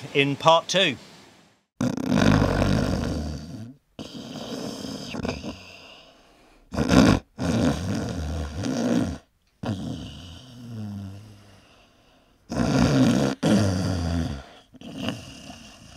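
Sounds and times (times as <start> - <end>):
man snoring heavily: 1.8 - 15.9.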